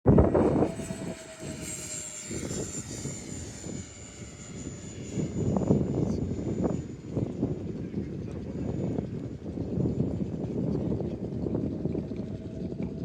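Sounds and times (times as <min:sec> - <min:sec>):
model airplane motor whine: 0:00.1 - 0:13.0
uneven low rumble: 0:00.1 - 0:13.0.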